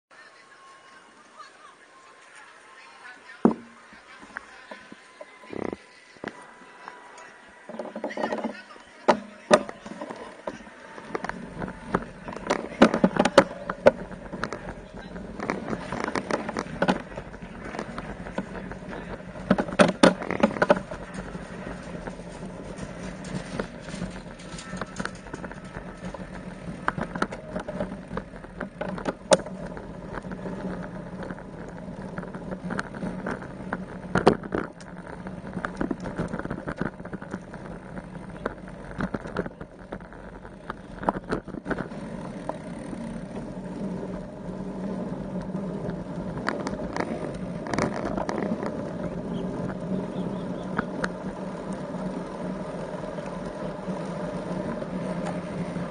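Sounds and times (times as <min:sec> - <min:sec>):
bicycle running on road: 0:00.1 - 0:55.9
bike knocking and rattling: 0:03.3 - 0:05.8, 0:06.4 - 0:55.9.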